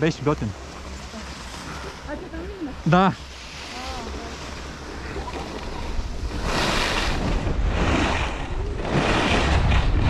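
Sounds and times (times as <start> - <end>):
wind rumbling on microphone: 1.4 - 10.0.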